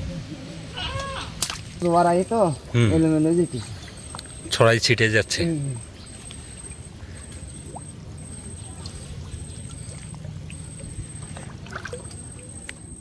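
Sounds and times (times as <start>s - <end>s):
low steady rumble: 0.0s - 13.0s
shallow water sloshing and trickling: 1.4s - 13.0s.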